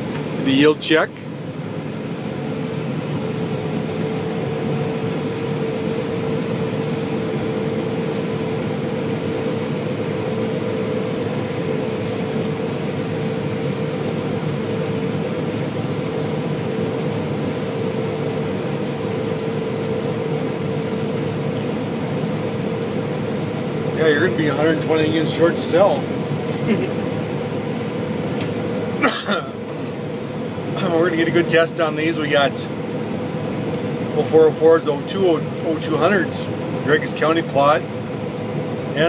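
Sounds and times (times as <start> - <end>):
combine harvester droning: 0.0 - 39.0.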